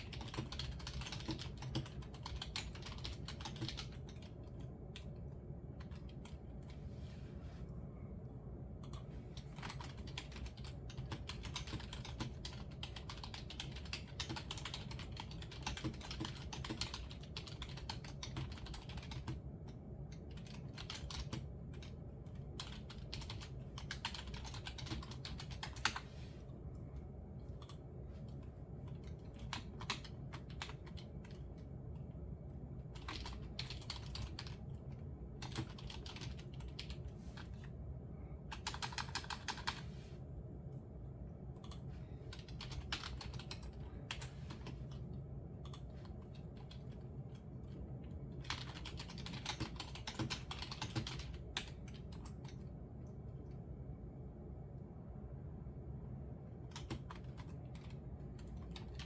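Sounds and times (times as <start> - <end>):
typing on a computer keyboard: 0.0 - 6.8, 8.8 - 26.1, 27.5 - 32.2, 32.8 - 37.7, 38.5 - 39.8, 41.6 - 53.2, 56.6 - 59.0.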